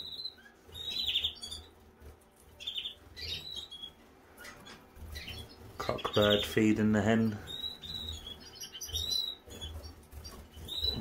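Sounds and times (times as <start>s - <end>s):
canaries chirping: 0.0s - 11.0s.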